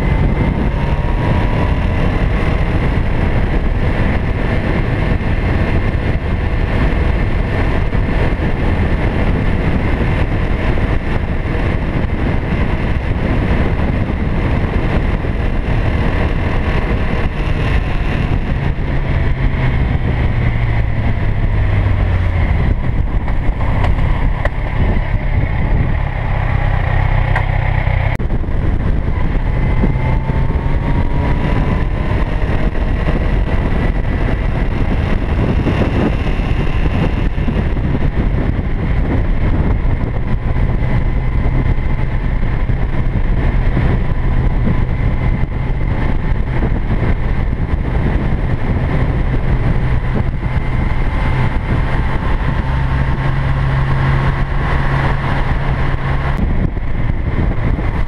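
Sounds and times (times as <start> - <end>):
motorcycle engine running: 0.0 - 58.0
wind rumble on microphone: 0.0 - 58.0.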